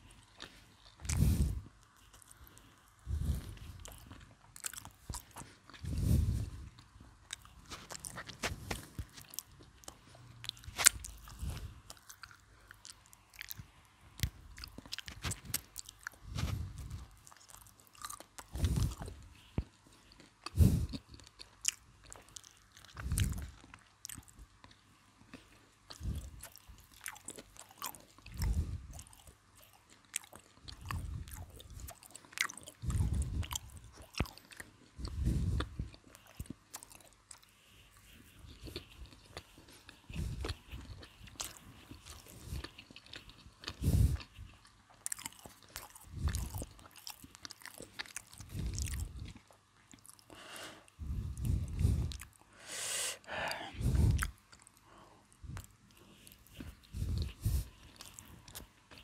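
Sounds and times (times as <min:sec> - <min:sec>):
crispy crust crackling: 0:00.0 - 0:50.2
soft low chewing: 0:00.0 - 0:59.0.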